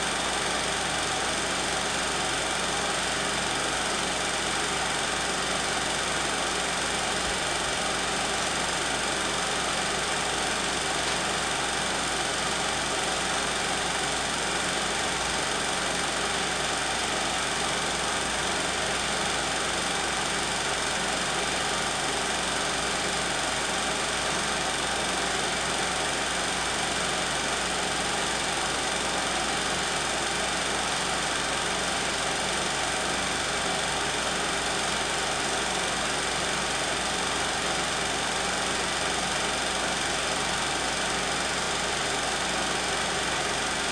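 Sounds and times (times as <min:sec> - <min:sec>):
film projector whirring: 0:00.0 - 0:43.9.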